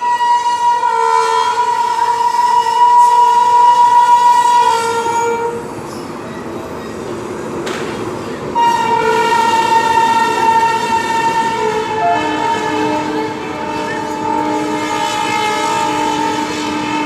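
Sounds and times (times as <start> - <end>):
locomotive horn blasts: 0.0 - 5.7, 8.6 - 17.0
train running rumble: 3.3 - 17.0.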